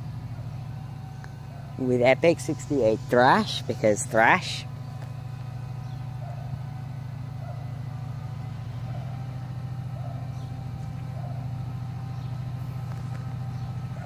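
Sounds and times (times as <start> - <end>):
diesel locomotives idling: 0.0 - 14.0.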